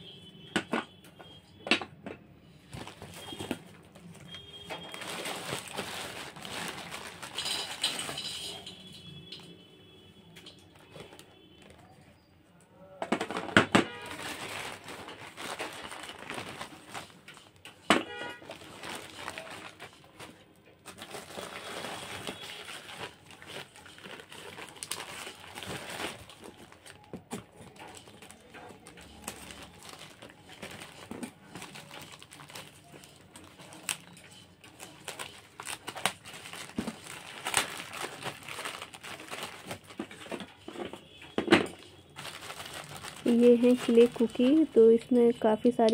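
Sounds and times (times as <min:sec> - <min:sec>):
plastic bag crinkling: 0:02.6 - 0:09.7, 0:13.1 - 0:45.9.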